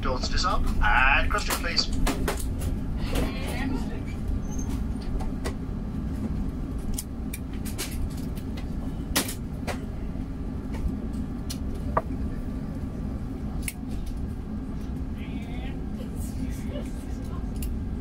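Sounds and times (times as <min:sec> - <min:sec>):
jet engines idling rumble: 0:00.0 - 0:18.0.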